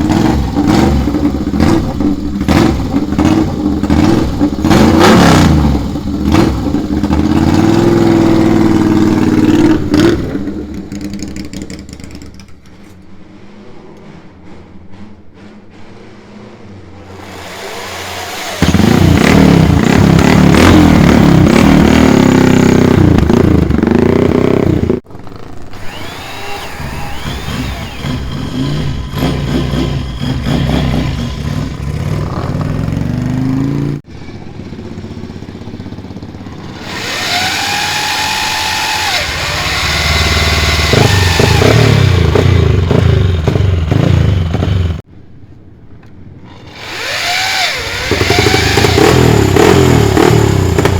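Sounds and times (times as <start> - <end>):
motorcycle engines revving: 0.0 - 12.7, 16.5 - 45.1, 46.8 - 50.9.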